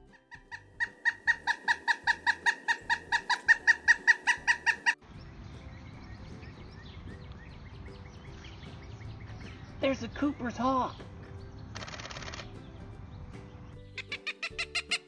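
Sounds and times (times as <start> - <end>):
woodpecker calling: 0.0 - 5.0, 6.5 - 12.6, 13.9 - 15.0.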